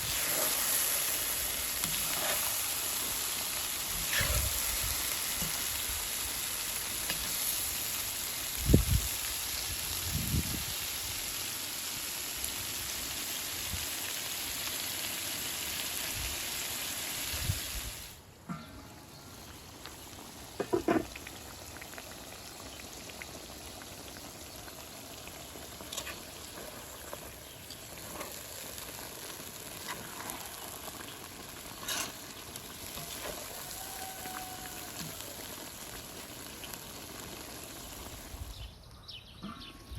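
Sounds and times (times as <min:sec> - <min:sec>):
stew sizzling and bubbling: 0:00.0 - 0:38.7.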